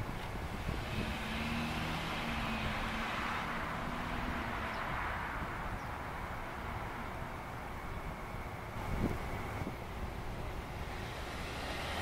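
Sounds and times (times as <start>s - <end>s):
aircraft engine droning: 0.4s - 12.0s.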